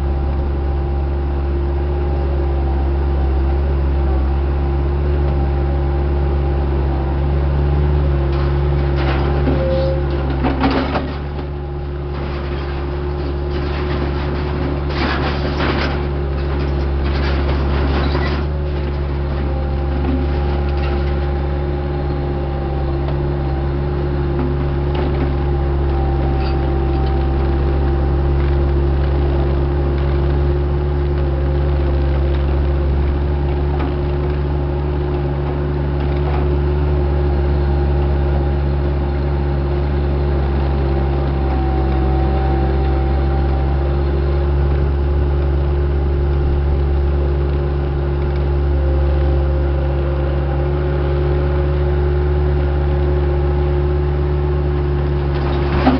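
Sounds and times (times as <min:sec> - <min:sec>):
diesel engine rumbling: 0:00.0 - 0:55.9
engine whine: 0:00.0 - 0:55.9.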